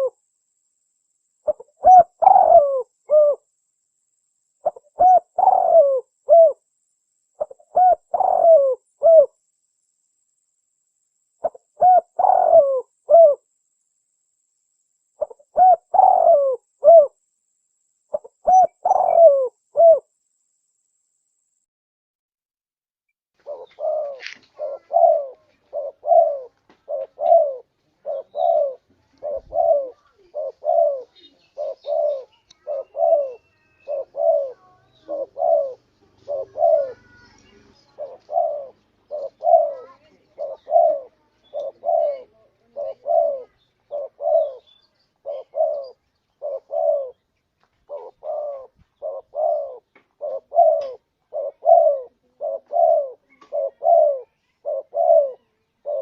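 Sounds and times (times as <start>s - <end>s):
dove cooing: 0.0s - 0.2s, 1.4s - 3.5s, 4.6s - 6.6s, 7.4s - 9.4s, 11.4s - 13.5s, 15.2s - 17.2s, 18.1s - 20.1s, 23.4s - 56.0s.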